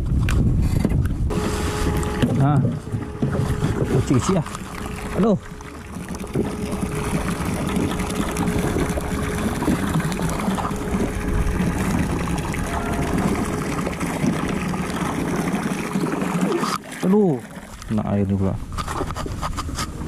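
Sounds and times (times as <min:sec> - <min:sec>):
boat background noise at sea: 0:00.0 - 0:20.0
faint steady hum: 0:01.2 - 0:20.0.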